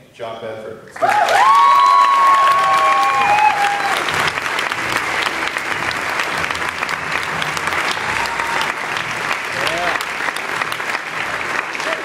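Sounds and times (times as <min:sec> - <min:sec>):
audience applauding: 0:01.0 - 0:12.0
high held cheers: 0:01.0 - 0:12.0.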